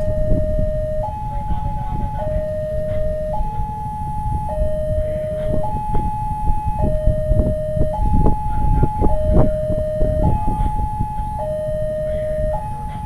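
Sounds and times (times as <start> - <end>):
heavy low rumble: 0.0 - 13.0
two-tone warning siren: 0.0 - 13.0.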